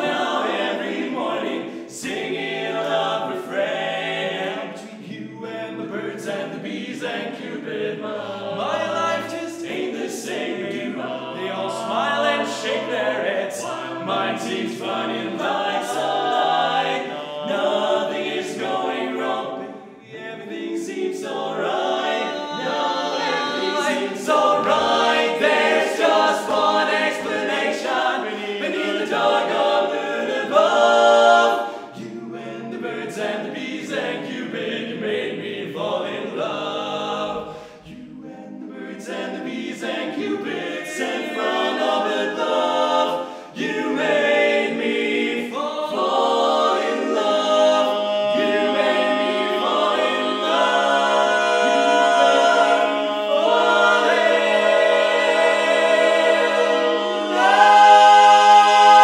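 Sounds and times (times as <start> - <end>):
male vocal quartet singing: 0.0 - 59.0.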